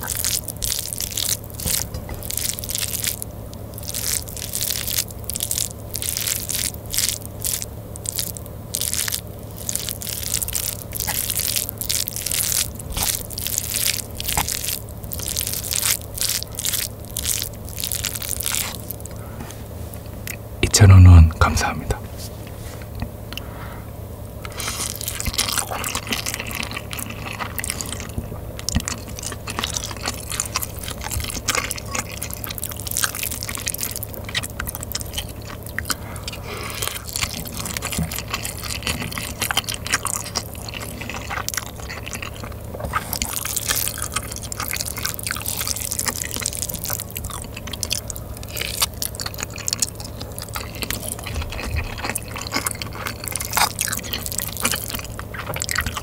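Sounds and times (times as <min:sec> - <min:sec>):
wet chewing and mouth sounds: 0:00.0 - 0:23.5, 0:24.4 - 0:56.0.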